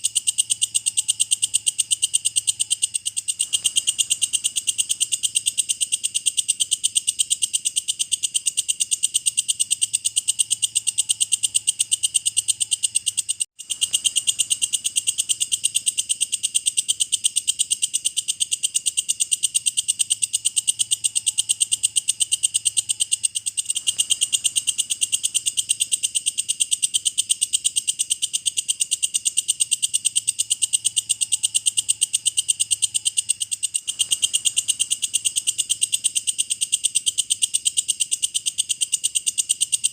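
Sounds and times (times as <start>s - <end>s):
insect high-pitched trill: 0.0s - 39.9s.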